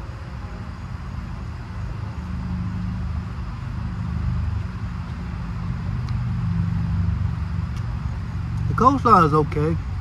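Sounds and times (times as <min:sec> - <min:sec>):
low mechanical hum and rumble: 0:00.0 - 0:10.0.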